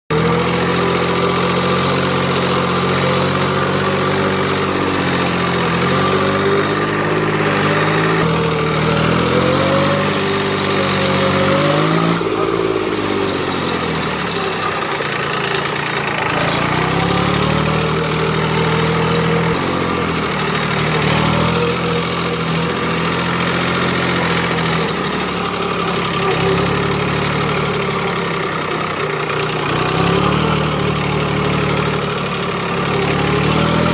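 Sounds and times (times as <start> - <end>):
tractor engine revving: 0.0 - 33.9.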